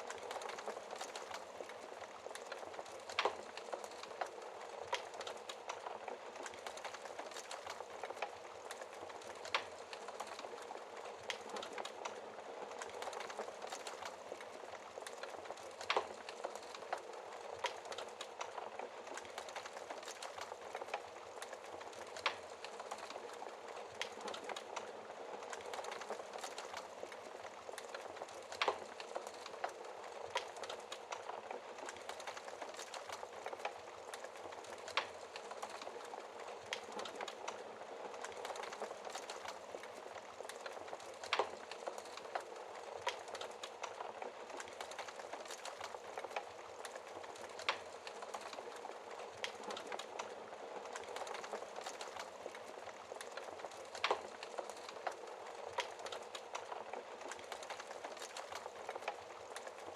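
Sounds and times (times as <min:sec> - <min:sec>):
fire pops and snaps: 0:00.0 - 0:59.9
wood fire crackling: 0:00.0 - 0:59.9.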